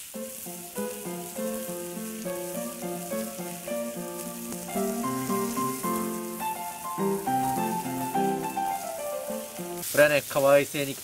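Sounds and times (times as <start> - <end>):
background music: 0.0 - 9.8
meat sizzling on a griddle: 0.0 - 11.0.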